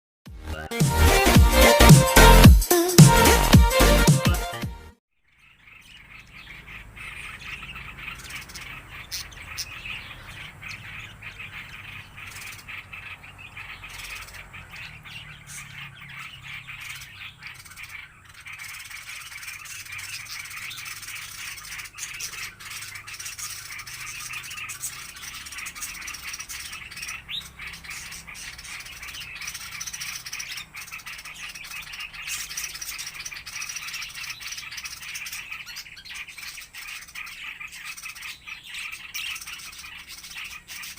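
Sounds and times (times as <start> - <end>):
flock of small birds chirping: 5.2 - 40.9.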